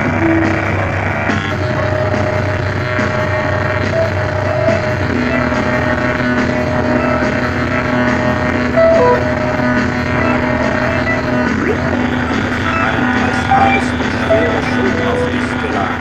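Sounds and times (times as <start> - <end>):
music with long held notes: 0.0 - 16.0.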